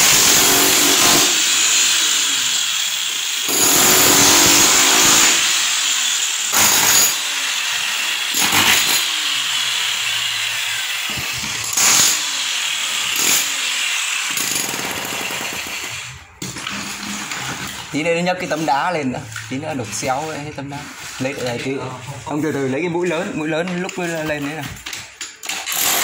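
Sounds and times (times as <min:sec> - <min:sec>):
power tool on masonry: 0:00.0 - 0:26.0.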